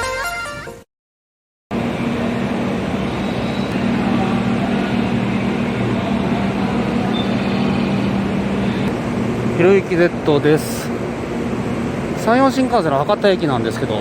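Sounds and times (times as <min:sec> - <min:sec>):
station platform mechanical hum: 0:01.7 - 0:14.0.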